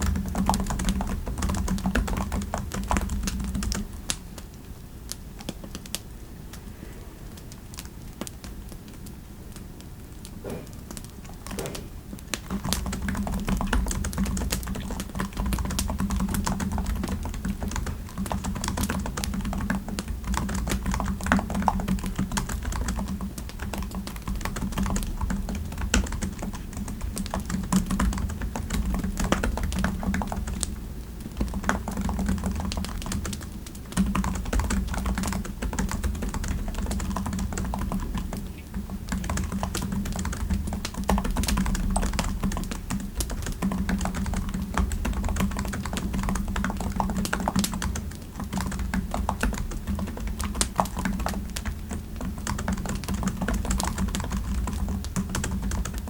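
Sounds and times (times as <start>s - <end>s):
typing on computer keyboard: 0.0s - 3.8s, 12.5s - 30.7s, 31.3s - 56.0s.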